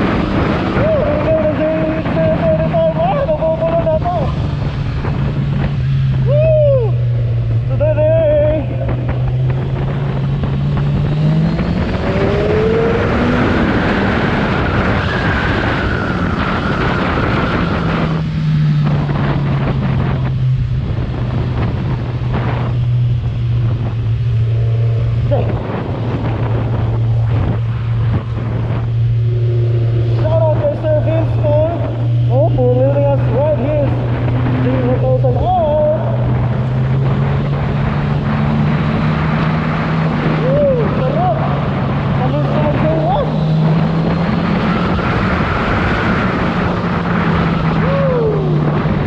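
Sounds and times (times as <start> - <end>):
motorcycle engine running: 0.0 - 49.0
wind rush: 0.0 - 49.0.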